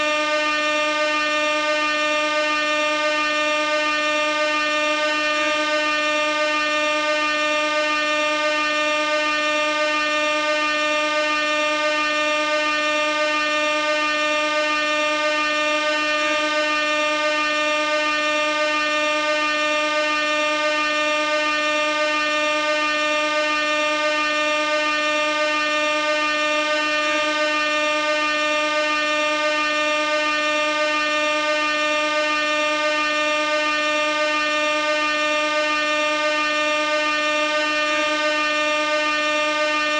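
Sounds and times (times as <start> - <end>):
air horn steady note: 0.0 - 39.9.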